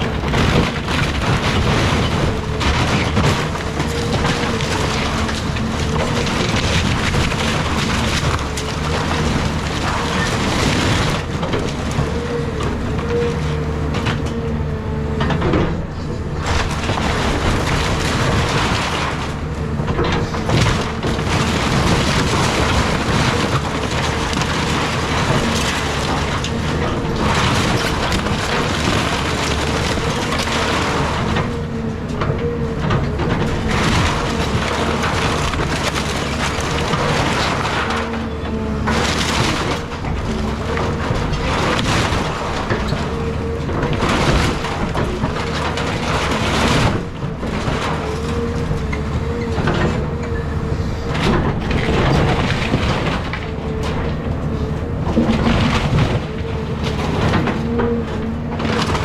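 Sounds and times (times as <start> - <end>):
diesel engine whining under load: 0.0 - 59.0
wood cracking and splintering: 0.0 - 59.0.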